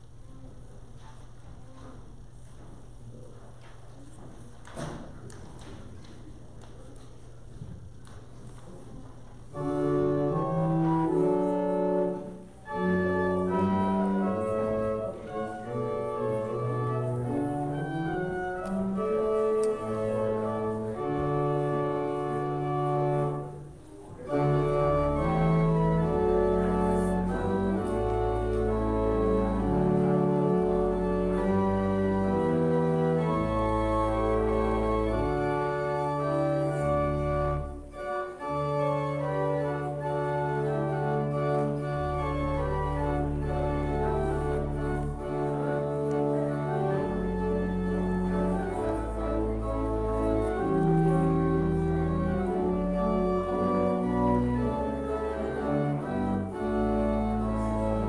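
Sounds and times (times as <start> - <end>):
deep organ pedal notes: 9.5 - 23.6, 24.2 - 58.0
pipe organ sustained chords: 9.5 - 58.0.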